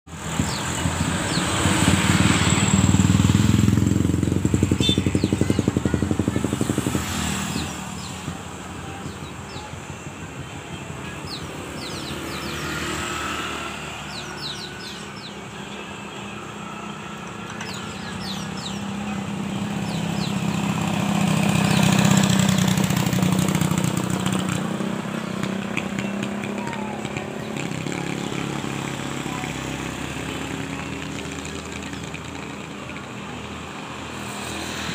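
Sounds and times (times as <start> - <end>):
vehicle engine passing by: 0.1 - 9.1, 11.2 - 15.3, 16.5 - 34.9.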